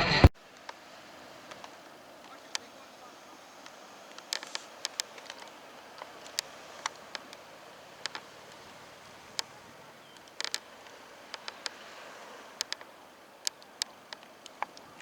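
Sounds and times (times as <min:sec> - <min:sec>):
faint steady hiss: 0:00.0 - 0:15.0
sharp clicks and ticks: 0:01.5 - 0:15.0.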